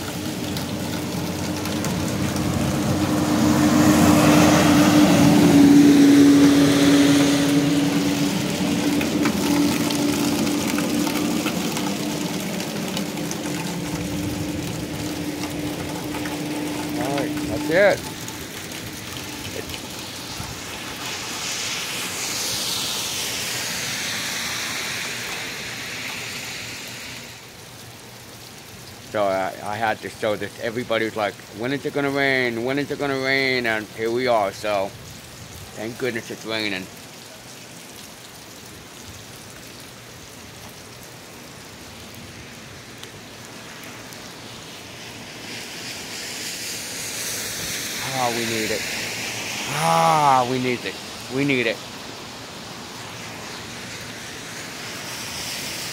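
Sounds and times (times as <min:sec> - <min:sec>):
car tyres hissing through water: 0:00.0 - 0:55.9
steady rain falling: 0:00.0 - 0:55.9.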